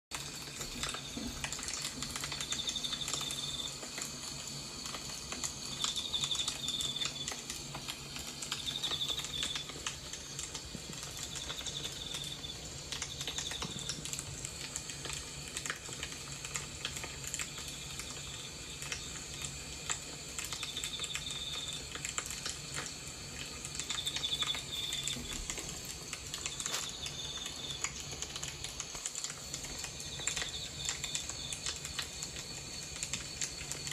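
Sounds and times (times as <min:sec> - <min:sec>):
fire crackling and popping: 0:00.1 - 0:33.9
low steady hum: 0:00.2 - 0:33.9.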